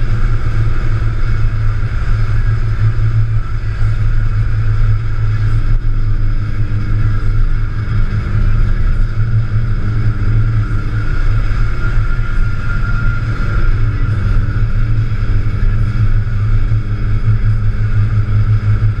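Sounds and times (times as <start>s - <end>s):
car engine droning: 0.0s - 19.0s
road noise: 0.0s - 19.0s.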